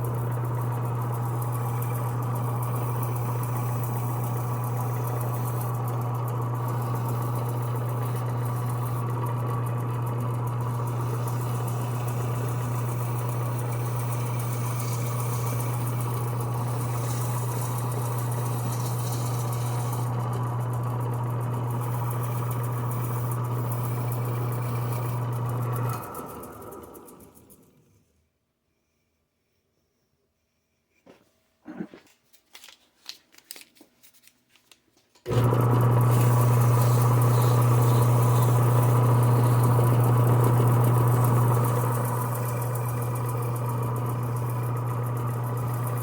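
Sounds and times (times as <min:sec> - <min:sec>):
sanding on lathe: 0:00.0 - 0:27.3, 0:35.3 - 0:46.0
lathe humming: 0:00.0 - 0:27.8, 0:35.3 - 0:46.0
lathe winding down: 0:00.0 - 0:27.9, 0:35.2 - 0:46.0.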